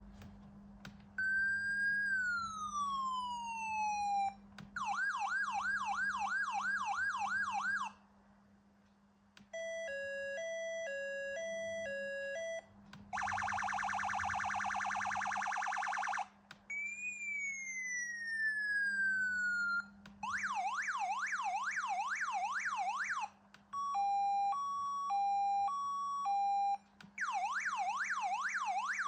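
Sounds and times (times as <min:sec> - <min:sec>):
electronic siren changing tones: 0:01.2 - 0:08.0, 0:09.6 - 0:29.0.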